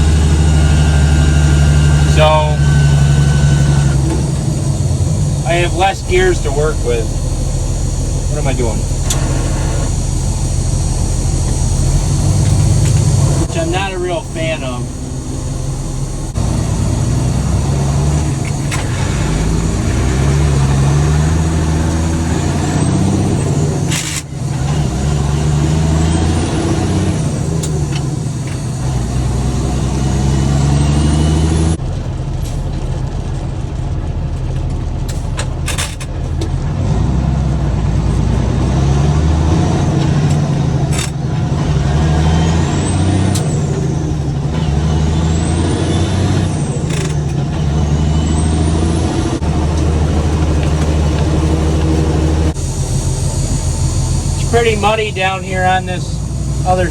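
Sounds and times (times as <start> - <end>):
truck diesel engine revving: 0.0 - 56.9.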